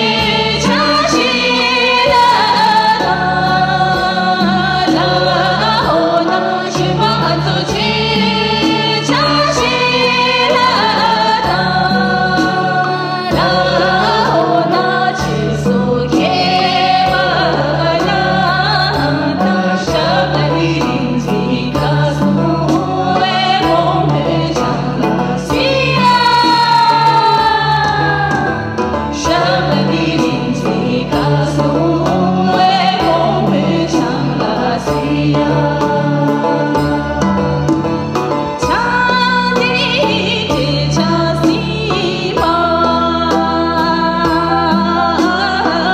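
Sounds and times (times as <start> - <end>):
woman singing into a microphone: 0.0 - 37.7, 38.6 - 45.9
instrumental backing music: 0.0 - 45.9.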